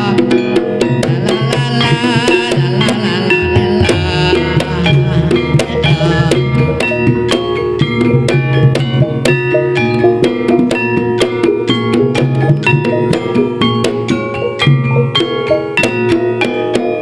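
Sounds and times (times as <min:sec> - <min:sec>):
drum strokes: 0:00.0 - 0:17.0
gamelan music: 0:00.0 - 0:17.0.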